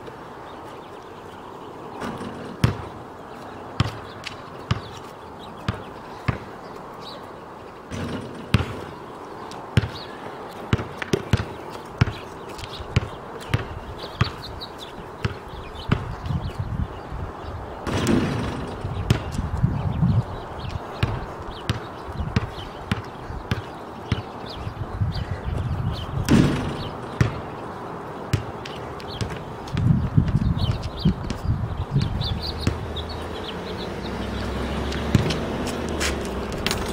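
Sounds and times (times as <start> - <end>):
basketball bouncing on asphalt: 2.0 - 6.8, 7.9 - 16.7, 17.8 - 33.8, 34.4 - 36.9.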